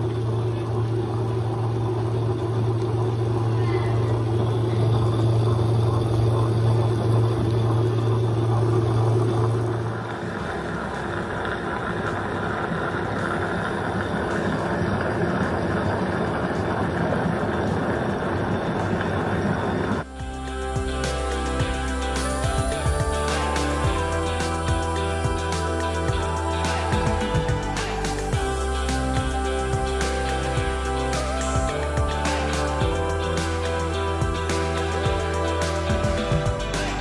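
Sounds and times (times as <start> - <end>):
motor hum: 0.0 - 37.0.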